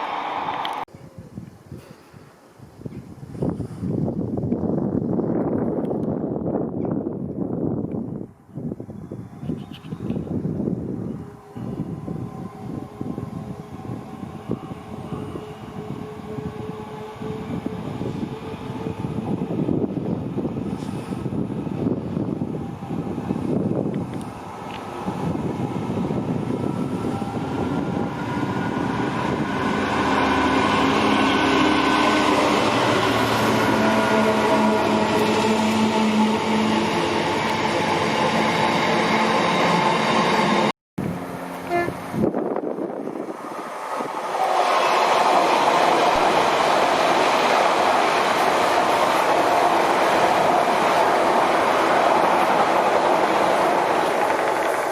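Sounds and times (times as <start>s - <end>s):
train rumble: 1.7s - 54.9s.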